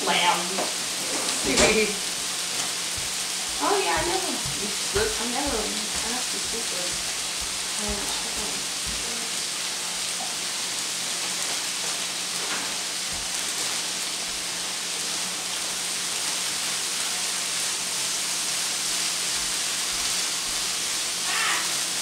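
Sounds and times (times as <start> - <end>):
vegetables sizzling in a skillet: 0.0 - 22.0.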